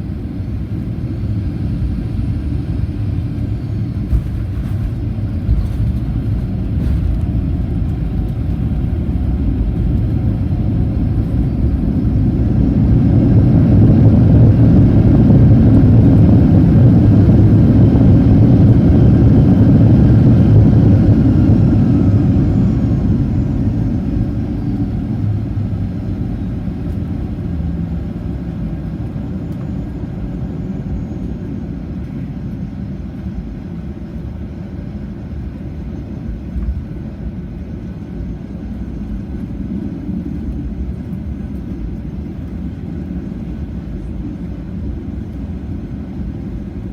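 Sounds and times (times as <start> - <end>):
faint falling engine whine: 0.0 - 46.9
jet engines roaring: 0.0 - 46.9.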